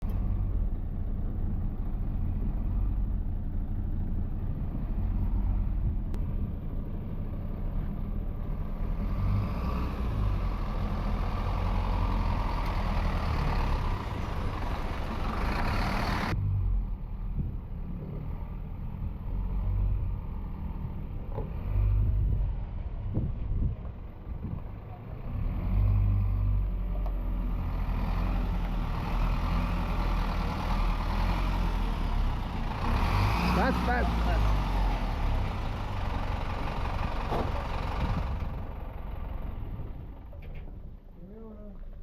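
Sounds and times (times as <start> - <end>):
truck engine rumbling: 0.0 - 42.0.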